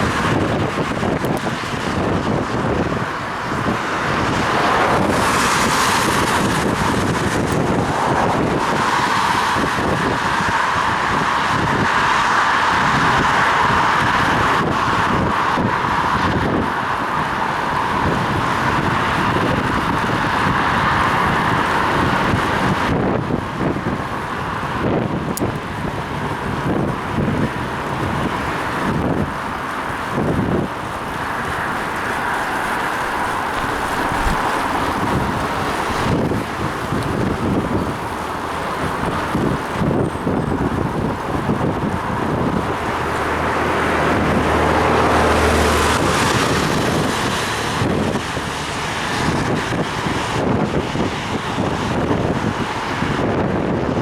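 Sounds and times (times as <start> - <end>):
bicycle tyres on wet road: 0.0 - 54.0
car traffic: 0.0 - 54.0
wind noise: 0.0 - 54.0.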